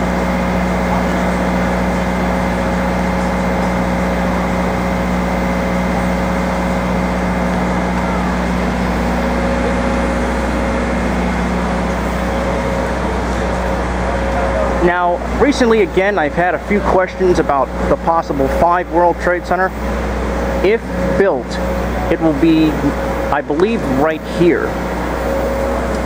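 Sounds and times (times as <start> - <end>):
machine low hum: 0.0 - 26.0.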